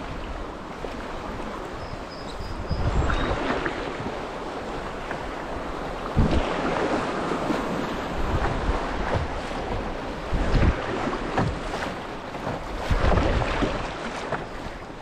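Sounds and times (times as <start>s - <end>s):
paddle strokes: 0.0s - 15.0s
river water rushing: 0.0s - 15.0s
waves splashing against canoe: 0.0s - 15.0s
wind buffeting microphone: 0.0s - 15.0s.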